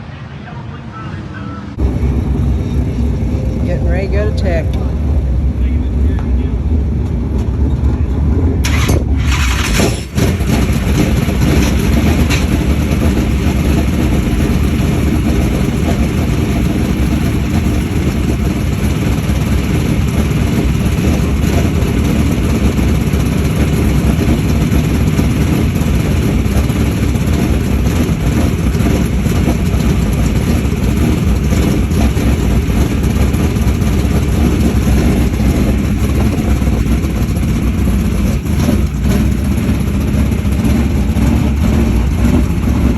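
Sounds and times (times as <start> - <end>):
race car engines running: 0.0 - 42.9.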